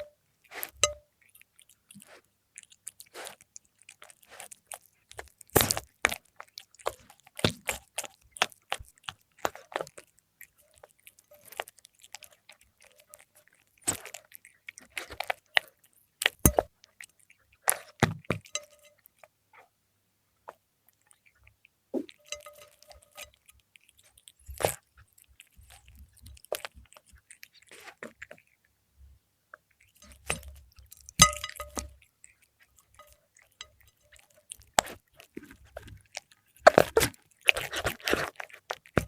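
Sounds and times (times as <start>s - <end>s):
cat chewing food: 0.0s - 19.7s, 20.3s - 39.0s.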